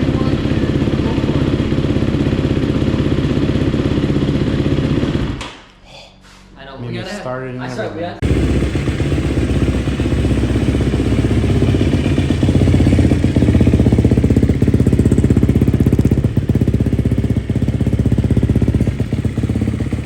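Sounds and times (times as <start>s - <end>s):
dirt bike engine idling: 0.0s - 5.4s, 8.2s - 20.0s.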